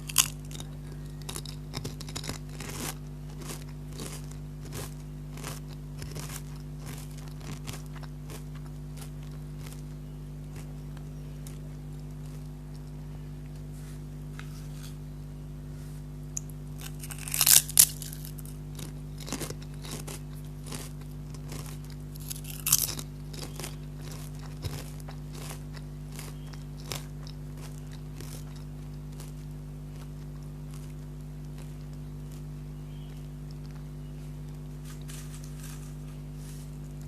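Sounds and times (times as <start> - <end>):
potato chips crunching bites: 0.0 - 13.0, 16.4 - 33.8, 34.4 - 37.0
chewing crunches: 0.0 - 13.7, 16.4 - 37.0
steady low hum: 0.0 - 37.0.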